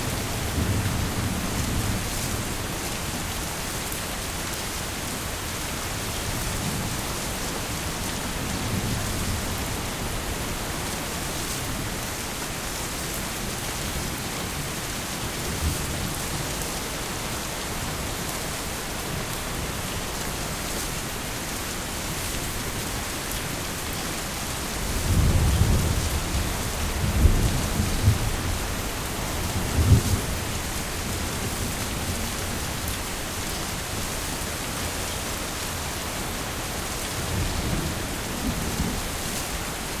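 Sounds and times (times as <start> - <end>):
heavy rain falling: 0.0 - 40.0
thunder rumbling: 0.0 - 40.0.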